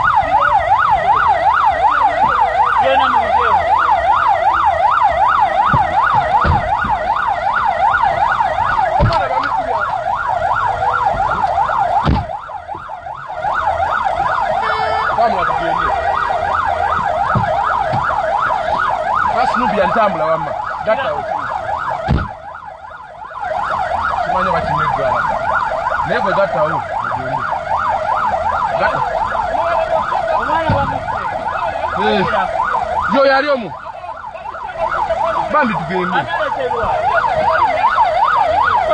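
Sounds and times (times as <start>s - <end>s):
fast warbling siren: 0.0s - 38.9s.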